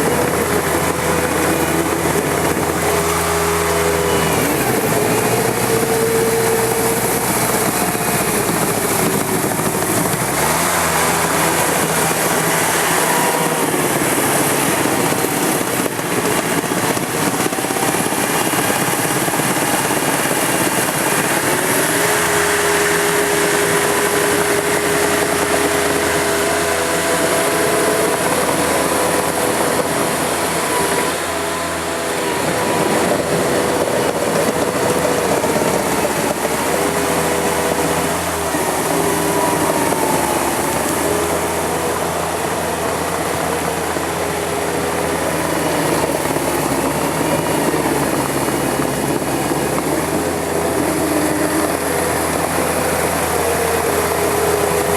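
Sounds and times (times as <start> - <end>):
machine engine running: 0.0 - 54.9.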